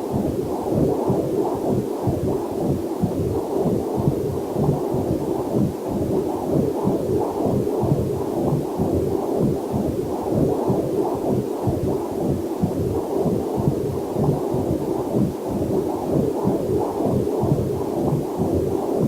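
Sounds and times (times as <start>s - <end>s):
fetal heartbeat whooshing pulses: 0.0s - 19.0s.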